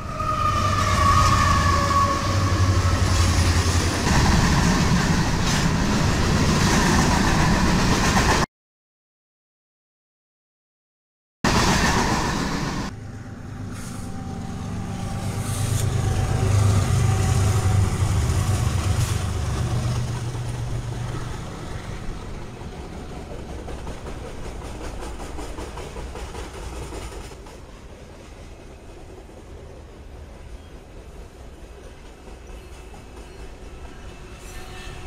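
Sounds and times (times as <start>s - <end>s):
diesel locomotive engine drone: 0.0s - 8.4s, 11.5s - 35.0s
freight cars rolling on rails: 0.0s - 8.4s, 11.5s - 35.0s
passenger train rushing past: 0.0s - 8.5s, 11.5s - 35.0s.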